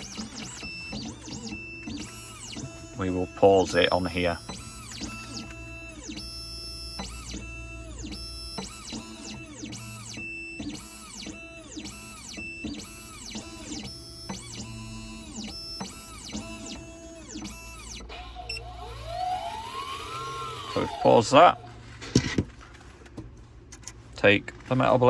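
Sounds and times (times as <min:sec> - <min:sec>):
stepper motors whining in sweeps: 0:00.0 - 0:22.1.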